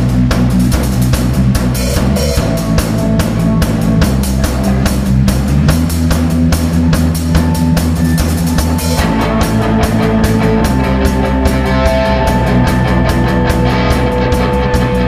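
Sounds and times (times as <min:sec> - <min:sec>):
drum kit beat: 0:00.0 - 0:15.0
live rock band playing: 0:00.0 - 0:15.0.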